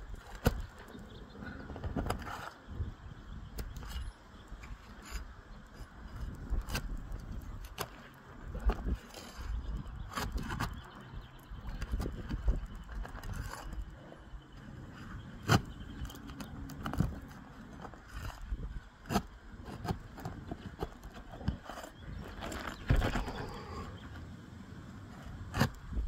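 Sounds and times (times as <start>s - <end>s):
roof shingles scraping and crackling: 0.1s - 2.9s, 3.6s - 24.2s.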